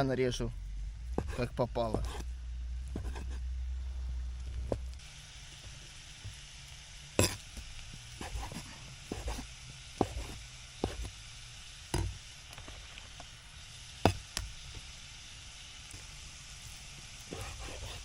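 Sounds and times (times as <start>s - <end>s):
vegetables sizzling in a pan: 0.6s - 18.0s.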